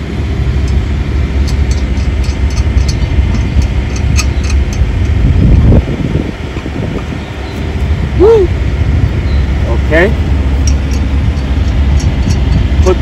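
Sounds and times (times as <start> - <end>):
low rumble of vehicles: 0.0 - 13.0.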